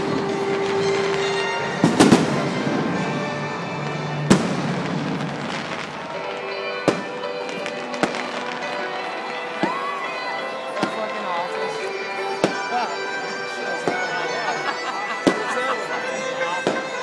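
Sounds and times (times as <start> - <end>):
fireworks bangs: 0.0 - 17.0
fireworks crackling: 0.0 - 17.0
music playing: 0.0 - 17.0.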